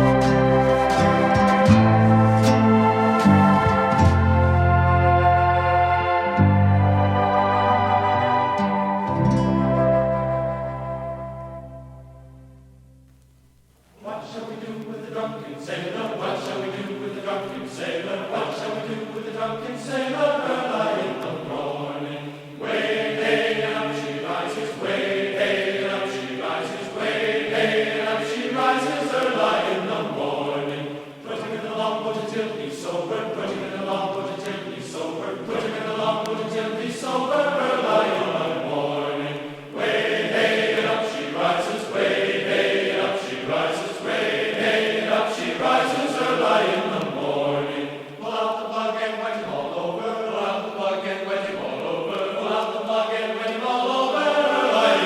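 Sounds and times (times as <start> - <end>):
choir singing a sea shanty: 0.0 - 12.3, 14.0 - 55.0.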